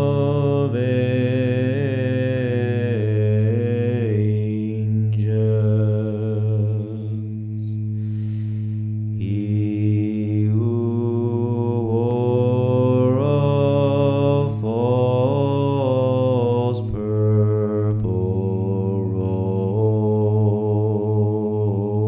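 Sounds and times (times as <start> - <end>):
man chanting ornamented melody: 0.0 - 22.0
man holding low drone: 0.0 - 22.0.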